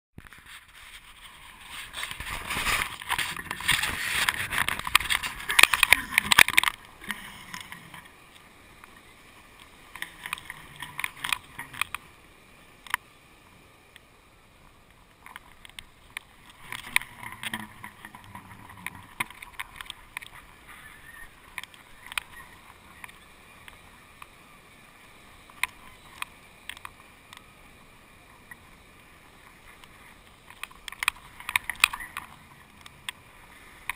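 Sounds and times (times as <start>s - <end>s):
wind rushing on camera: 0.2s - 33.9s.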